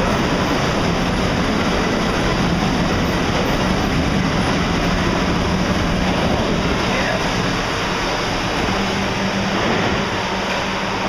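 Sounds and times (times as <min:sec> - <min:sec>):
water ride boat running: 0:00.0 - 0:11.0.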